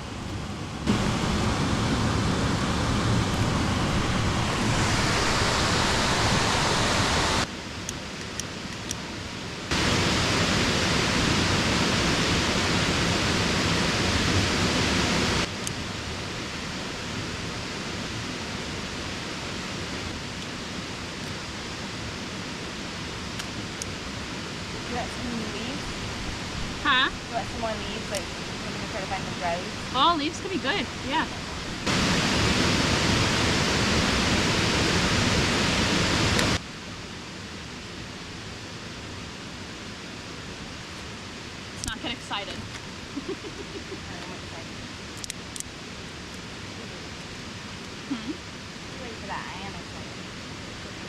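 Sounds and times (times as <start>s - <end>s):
creek water rushing: 0.0s - 51.0s.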